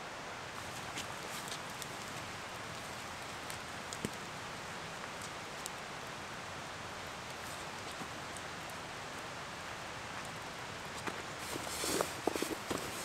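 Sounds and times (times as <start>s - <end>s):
campfire crackling: 0.0s - 13.0s
outdoor background hiss: 0.0s - 13.0s.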